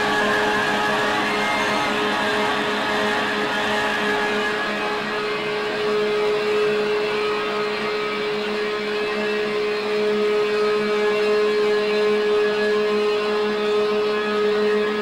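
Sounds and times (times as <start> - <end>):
guitar drone: 0.0 - 15.0.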